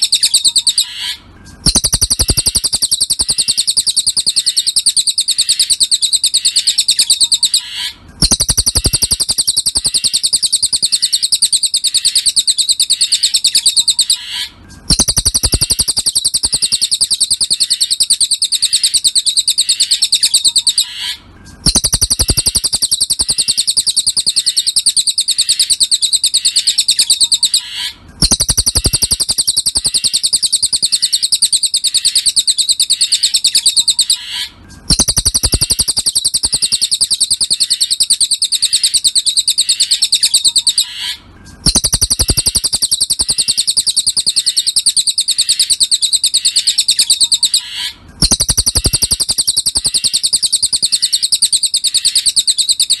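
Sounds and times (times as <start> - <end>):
bird high rapid trill: 0.0 - 53.0.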